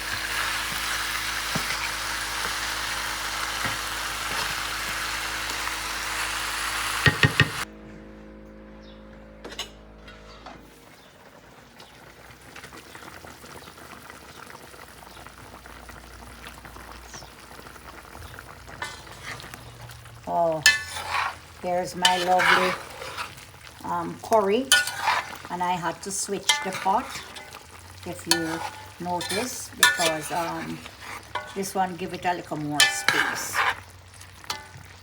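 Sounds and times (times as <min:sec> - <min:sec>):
chicken wings sizzling in a pot: 0:00.0 - 0:07.7, 0:10.8 - 0:35.0.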